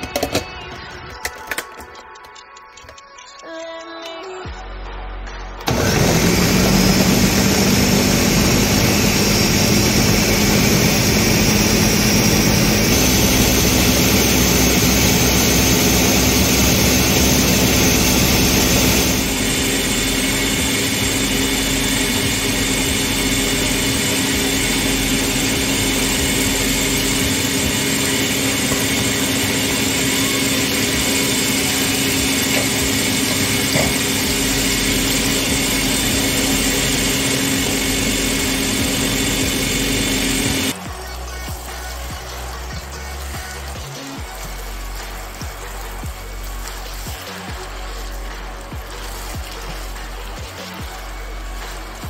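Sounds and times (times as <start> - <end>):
blender motor whirring: 5.6 - 52.0.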